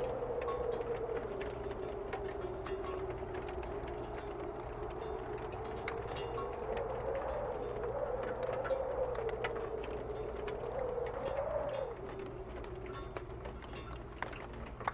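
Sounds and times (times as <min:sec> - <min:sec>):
storm wind moaning: 0:00.0 - 0:14.9.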